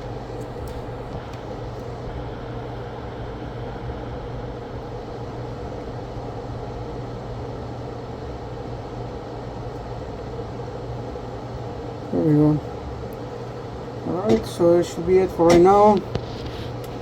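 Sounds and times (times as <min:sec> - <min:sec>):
small electric fan humming: 0:00.0 - 0:17.0.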